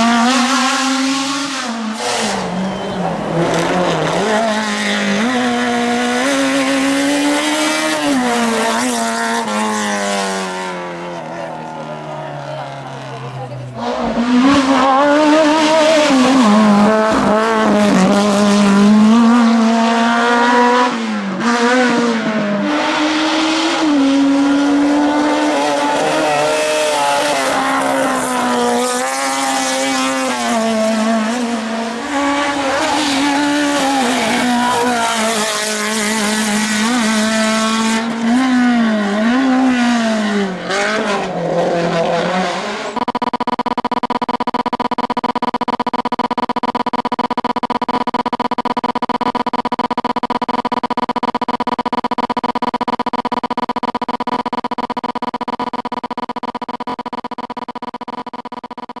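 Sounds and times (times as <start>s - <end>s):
race car engine revving: 0.0s - 49.8s.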